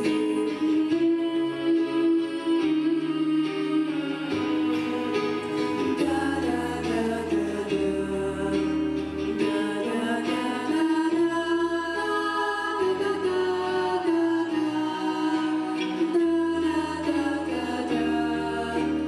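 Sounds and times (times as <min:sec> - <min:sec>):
backing track with bass line: 0:00.0 - 0:19.0
vocal ensemble singing held notes: 0:00.0 - 0:19.0.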